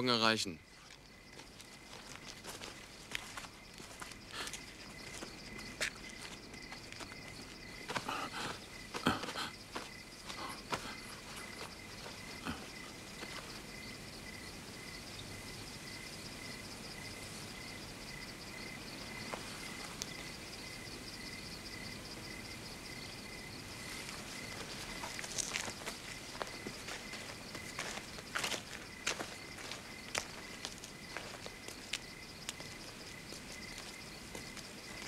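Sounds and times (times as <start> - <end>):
insects chirping trill: 0.0 - 35.0.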